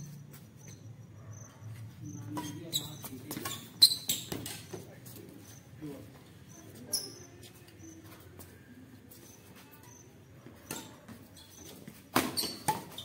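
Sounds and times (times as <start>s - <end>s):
shoes squeaking on concrete: 0.0s - 13.0s.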